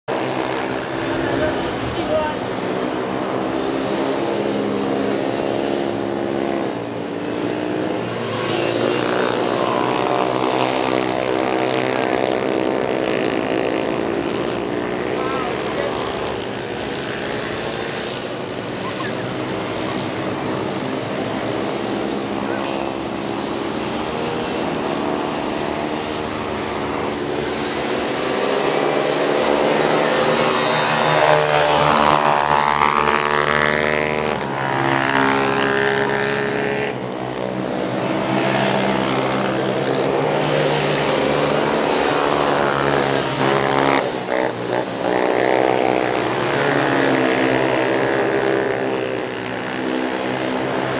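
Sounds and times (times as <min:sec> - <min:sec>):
quad bike engines revving: 0:00.0 - 0:50.9.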